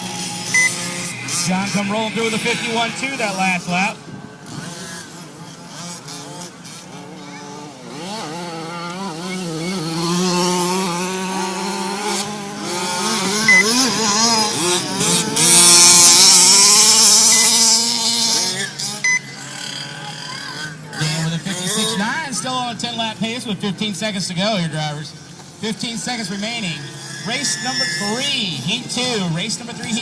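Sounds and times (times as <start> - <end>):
radio-controlled car engines revving: 0.0 - 30.0.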